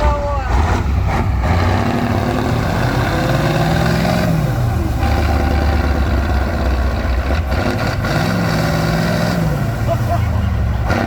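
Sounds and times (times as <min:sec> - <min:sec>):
diesel truck engine revving: 0:00.0 - 0:11.0.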